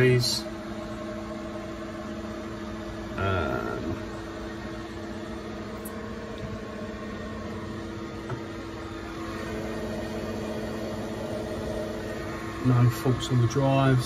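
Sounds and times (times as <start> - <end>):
electrical cabinet humming: 0.0 - 14.0.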